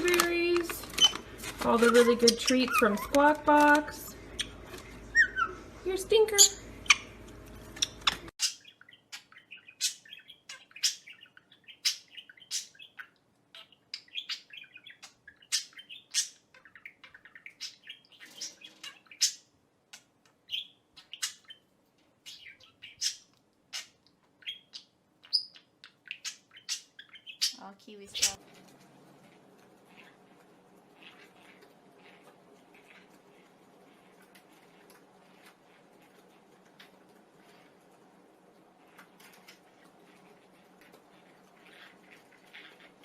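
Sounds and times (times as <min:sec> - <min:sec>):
parrot chirping and chattering: 0:00.0 - 0:43.0.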